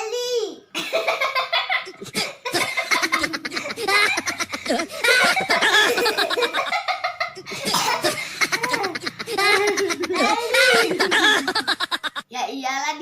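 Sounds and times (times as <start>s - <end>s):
girls laughing and giggling: 0.8s - 12.2s.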